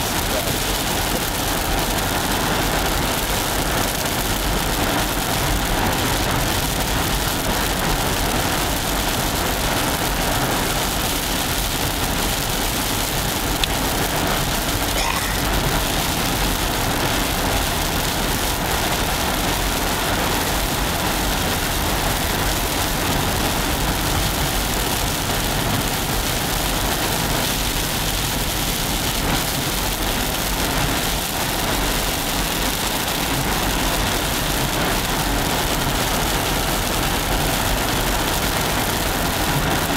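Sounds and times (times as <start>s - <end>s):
hail and rain on a car: 0.0s - 39.9s.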